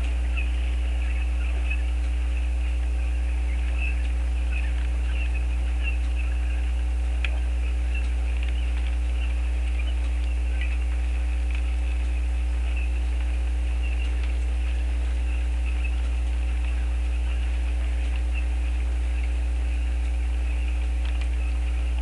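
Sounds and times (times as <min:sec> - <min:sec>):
steady low hum: 0:00.0 - 0:22.0
faint high chirps and squeaks: 0:00.1 - 0:22.0.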